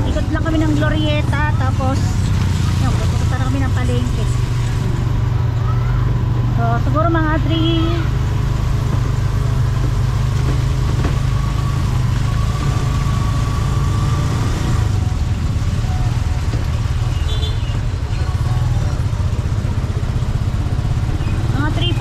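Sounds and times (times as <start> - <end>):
tyres hissing on wet road: 0.0 - 5.3, 7.4 - 22.0
vehicle engine drone: 0.0 - 22.0.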